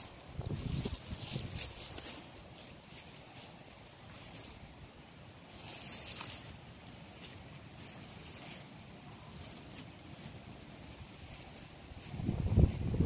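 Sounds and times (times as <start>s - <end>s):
cat scratching straw and dirt: 0.0s - 13.0s.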